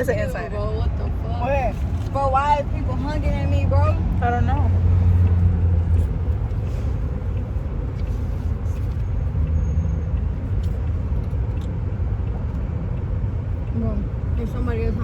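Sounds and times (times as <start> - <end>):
car engine and road noise inside cabin: 0.0 - 15.0.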